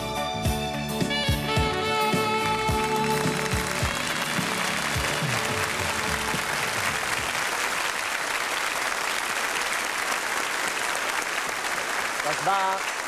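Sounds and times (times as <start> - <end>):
studio audience applauding: 1.2 - 13.0.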